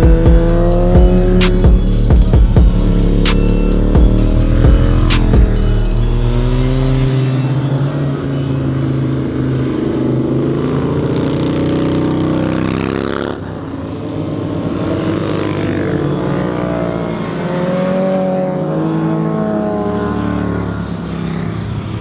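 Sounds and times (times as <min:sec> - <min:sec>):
vehicle engines revving: 0:00.0 - 0:22.0
vehicle passing by: 0:00.0 - 0:22.0.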